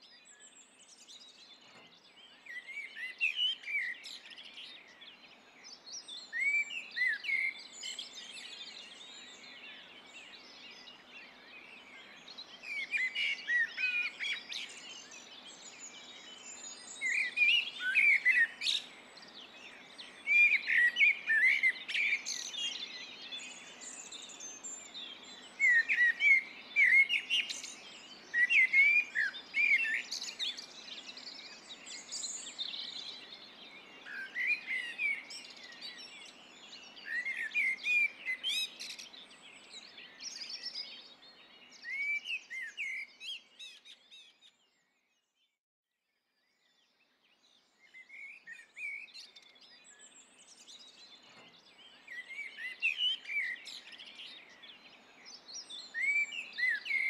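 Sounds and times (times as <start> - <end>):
songbirds chirping: 0.0 - 45.6, 46.2 - 57.0.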